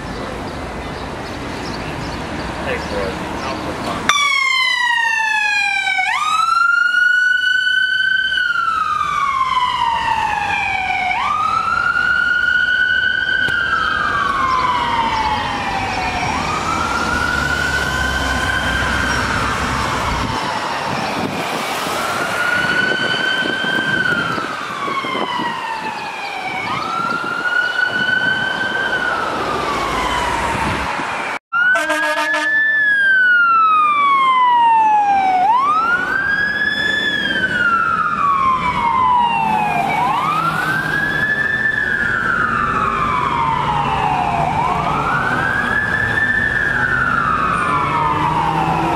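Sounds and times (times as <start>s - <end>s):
electronic siren slow wail: 4.1s - 48.9s.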